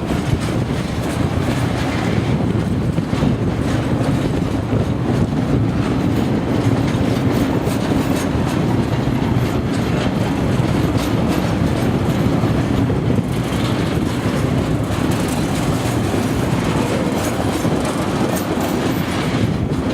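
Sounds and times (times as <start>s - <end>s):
freight train wheels rumbling: 0.0s - 19.9s
wheels clicking over rail joints: 0.0s - 19.9s.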